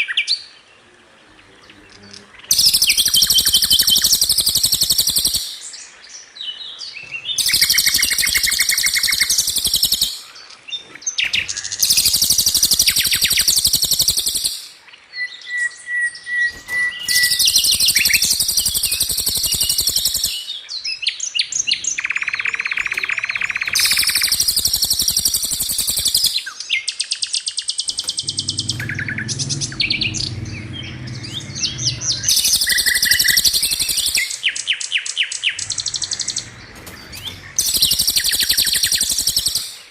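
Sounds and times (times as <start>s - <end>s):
sharp bird calls: 0.0s - 15.1s, 16.1s - 39.9s
low buzzing bird song: 0.0s - 39.9s.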